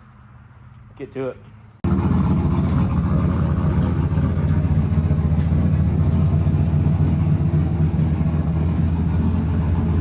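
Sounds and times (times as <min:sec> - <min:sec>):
turbocharged truck engine idling: 0:01.8 - 0:10.0.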